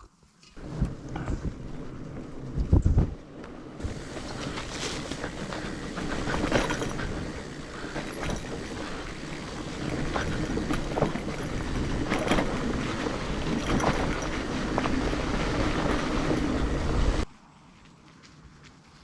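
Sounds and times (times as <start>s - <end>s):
bike knocking and rattling: 0.5s - 17.3s
tyre and wind rumble: 0.6s - 17.3s.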